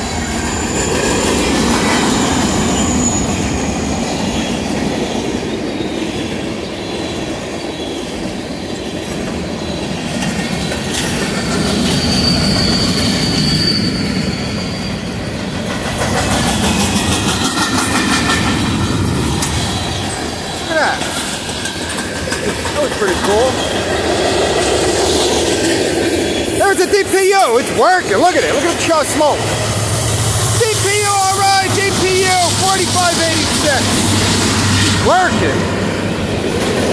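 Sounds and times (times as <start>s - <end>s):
clickety-clack over rail joints: 0.0s - 13.8s, 15.1s - 36.9s
high wheel squeals: 0.0s - 35.6s
steel wheels rumbling on rail: 0.0s - 36.9s.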